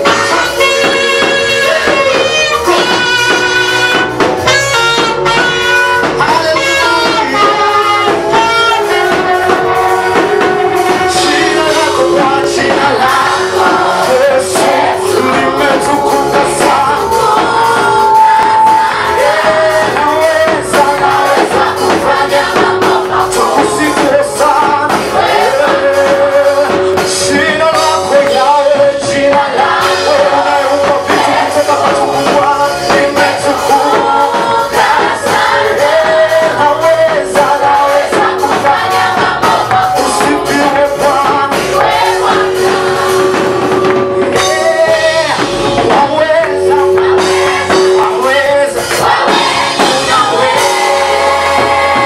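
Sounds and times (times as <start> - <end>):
band and percussion: 0.0 - 52.0
vocal group singing gospel: 0.0 - 52.0.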